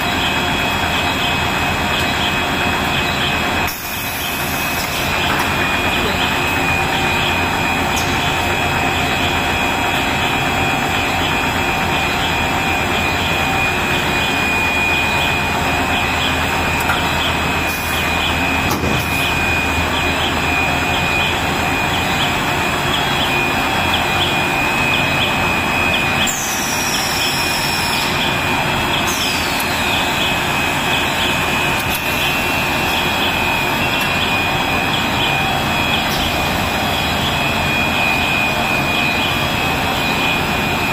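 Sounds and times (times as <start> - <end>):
production line machine noise: 0.0 - 40.9.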